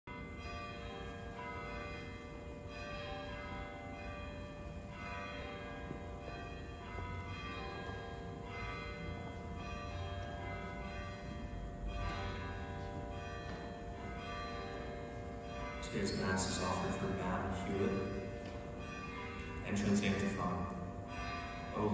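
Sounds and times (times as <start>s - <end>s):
church bells pealing: 0.1s - 21.9s.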